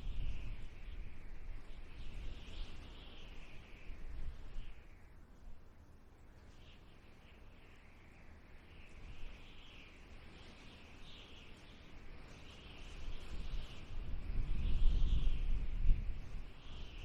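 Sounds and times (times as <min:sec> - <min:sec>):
wind blowing: 0:00.0 - 0:05.2, 0:07.3 - 0:17.0.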